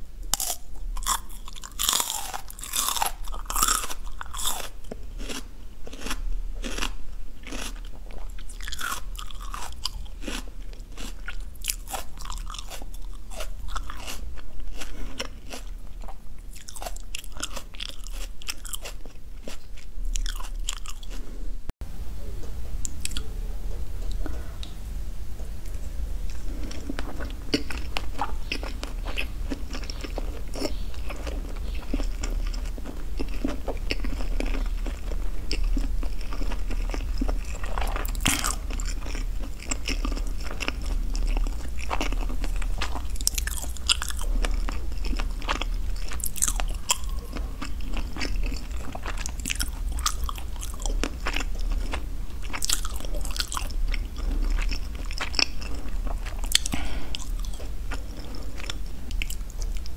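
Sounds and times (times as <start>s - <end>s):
person chewing food: 0.3s - 21.4s, 22.8s - 23.3s, 25.7s - 59.9s.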